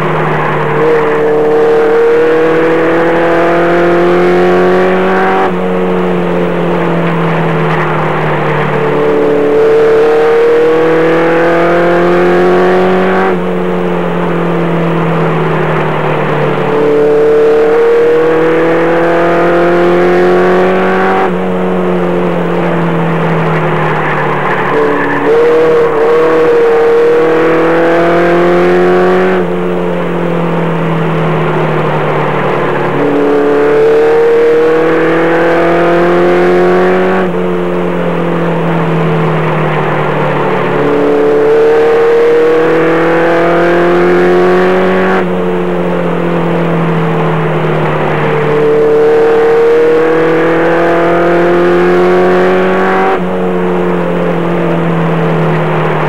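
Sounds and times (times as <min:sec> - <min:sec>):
race truck engine: 0:00.0 - 0:56.0.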